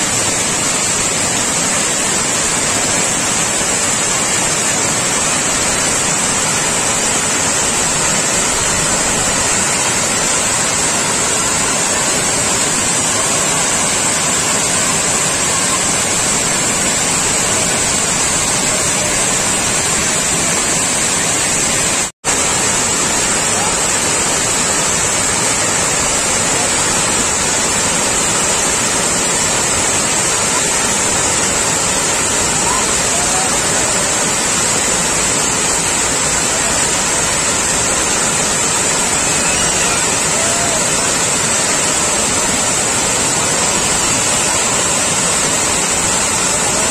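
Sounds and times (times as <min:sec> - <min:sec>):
water pouring over dam: 0:00.0 - 0:46.9.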